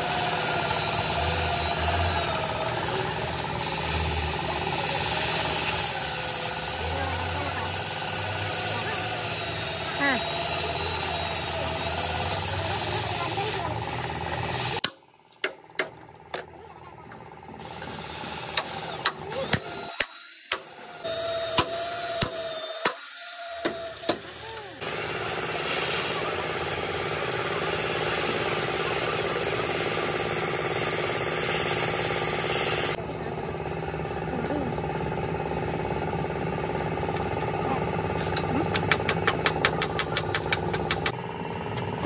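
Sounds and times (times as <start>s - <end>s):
machine running steadily: 0.0s - 22.7s, 23.6s - 42.0s.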